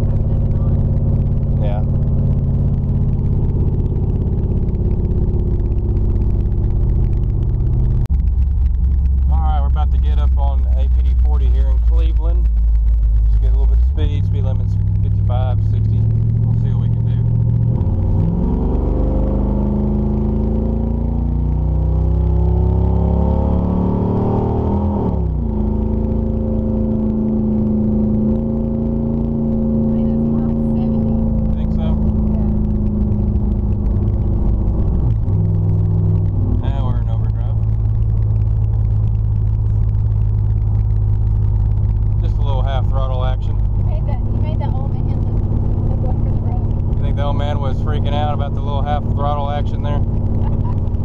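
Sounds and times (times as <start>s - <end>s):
loud car exhaust: 0.0s - 51.0s.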